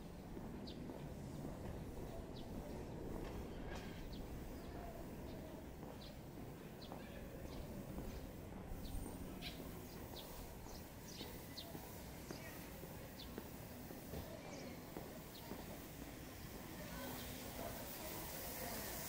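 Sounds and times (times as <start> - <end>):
low street hum: 0.0 - 19.0.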